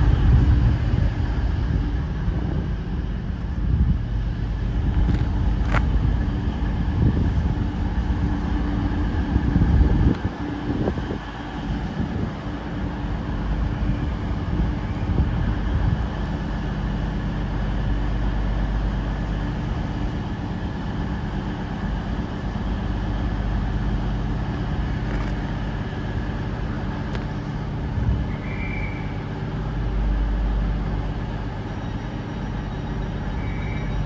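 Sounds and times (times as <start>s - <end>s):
steady hum: 0.0s - 34.0s
train mechanical drone: 0.0s - 34.0s.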